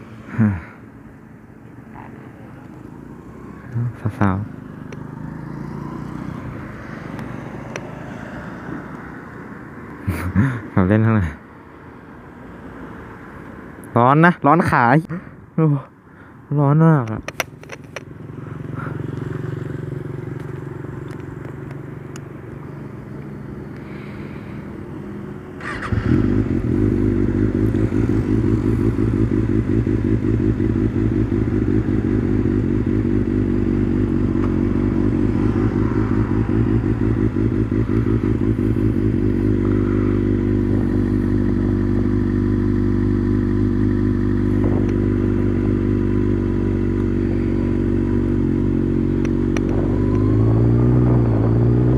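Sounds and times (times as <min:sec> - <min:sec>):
motorcycle engine: 0:00.0 - 0:10.6, 0:17.0 - 0:51.9.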